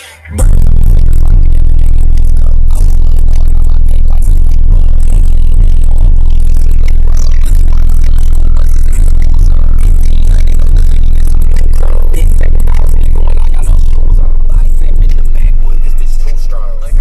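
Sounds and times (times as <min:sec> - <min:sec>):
rap music through subwoofer: 0:00.0 - 0:17.0.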